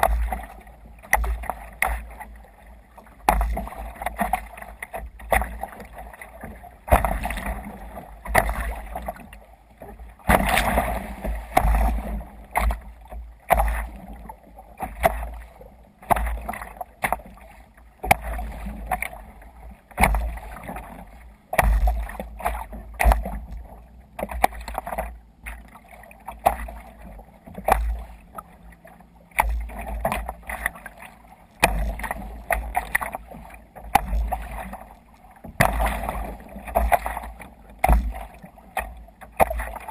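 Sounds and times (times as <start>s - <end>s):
water splashing against kayak: 0.0s - 39.9s.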